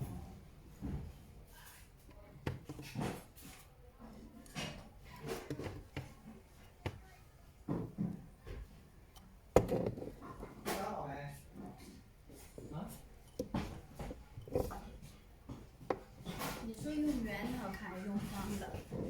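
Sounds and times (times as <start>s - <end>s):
objects handled on work surface: 0.7s - 19.0s.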